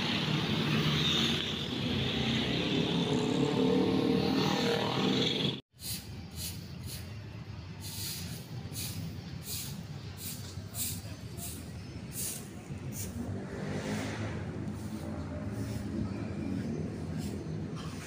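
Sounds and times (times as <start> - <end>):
distant traffic rumble: 0.0 - 18.0.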